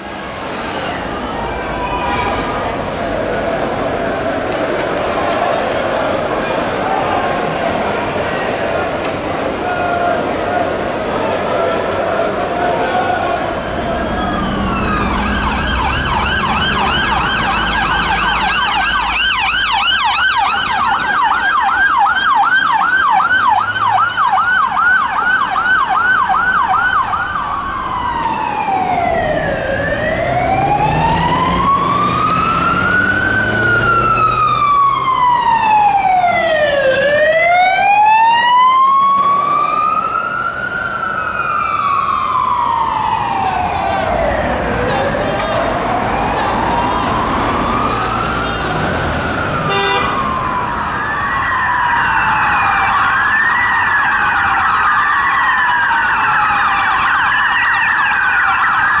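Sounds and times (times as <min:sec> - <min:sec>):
fire engine siren: 0:00.0 - 0:59.0
traffic: 0:00.0 - 0:59.0.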